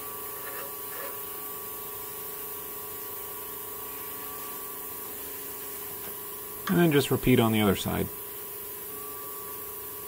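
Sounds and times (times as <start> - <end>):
bench grinder humming: 0.0 - 10.0.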